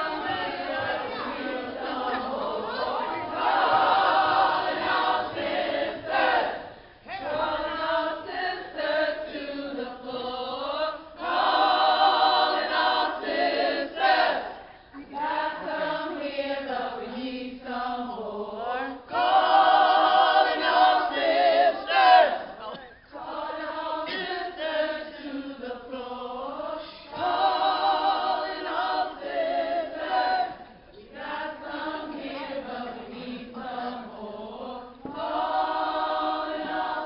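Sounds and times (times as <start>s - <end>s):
women singing together: 0.0s - 37.0s.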